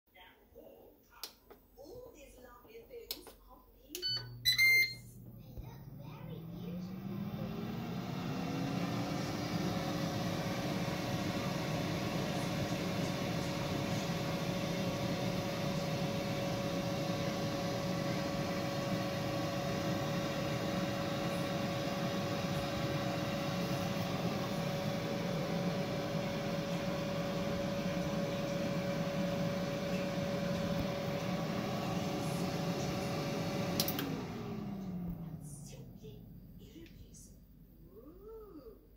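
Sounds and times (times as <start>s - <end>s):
air fryer fan whirring: 3.1s - 38.7s.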